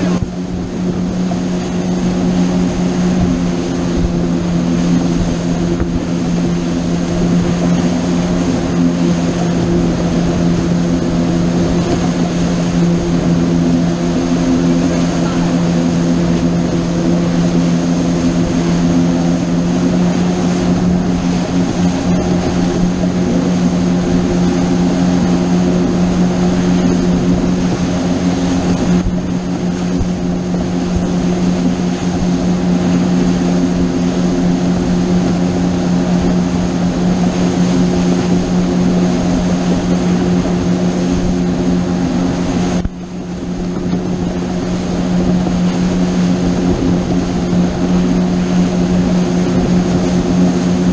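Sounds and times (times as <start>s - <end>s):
boat engine running: 0.0s - 50.9s
water rushing: 0.0s - 50.9s.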